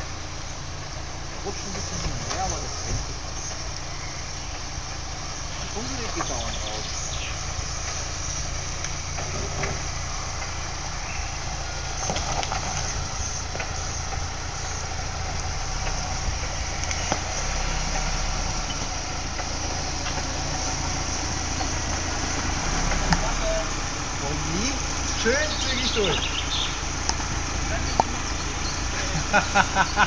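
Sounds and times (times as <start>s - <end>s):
car engine low rumble: 0.0s - 30.0s.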